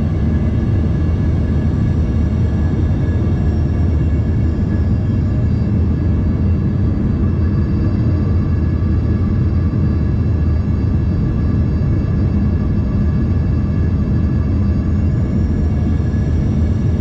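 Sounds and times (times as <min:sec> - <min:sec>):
airliner cabin rumble: 0:00.0 - 0:17.0
turbofan engine whine: 0:00.0 - 0:17.0.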